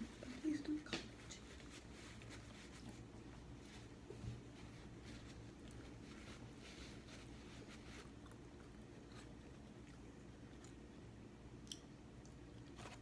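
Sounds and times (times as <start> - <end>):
low room hum: 0.0 - 13.0
chewing food: 1.6 - 6.6, 7.2 - 13.0.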